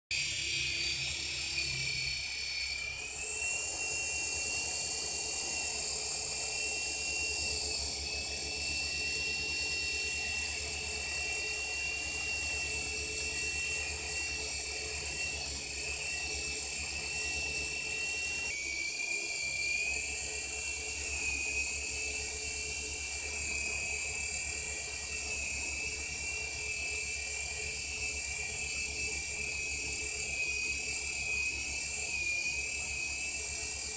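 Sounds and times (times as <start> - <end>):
toy helicopter motor whine: 0.1 - 33.9.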